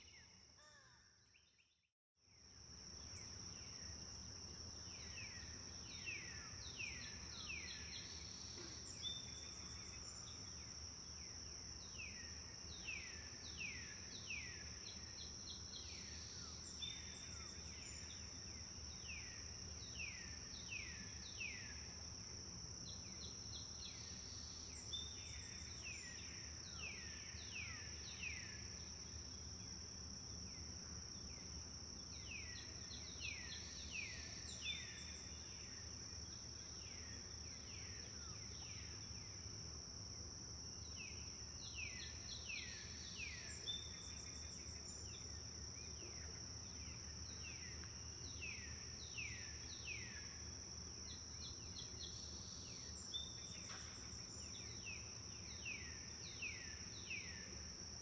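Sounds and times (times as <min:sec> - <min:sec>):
high insect drone: 0:02.5 - 0:58.0.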